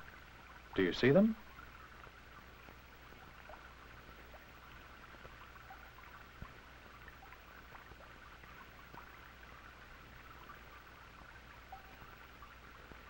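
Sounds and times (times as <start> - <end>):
film soundtrack hiss and hum: 0.0 - 13.0
small clicks and pops: 1.5 - 13.0.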